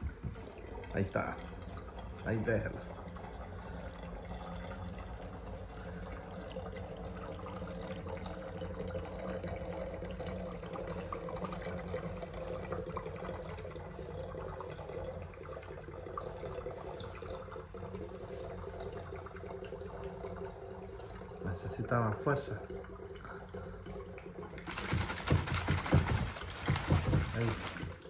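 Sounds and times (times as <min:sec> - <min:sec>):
water swirling and splashing: 0:00.0 - 0:28.0.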